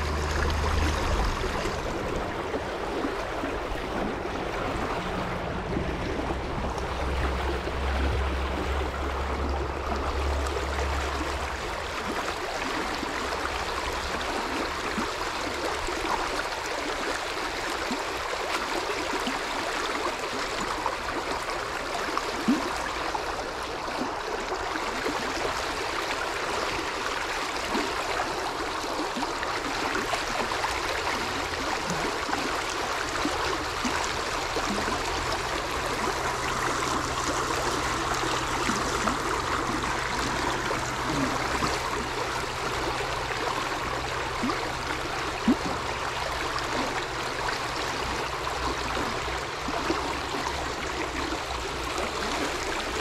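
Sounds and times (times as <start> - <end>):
river water rushing and gurgling: 0.0 - 53.0.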